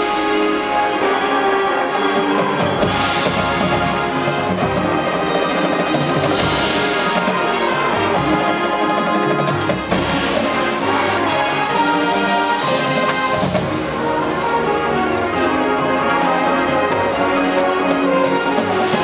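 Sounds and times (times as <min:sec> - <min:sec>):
brass chords: 0:00.0 - 0:19.0
drums: 0:00.0 - 0:19.0
mallet percussion: 0:00.0 - 0:19.0.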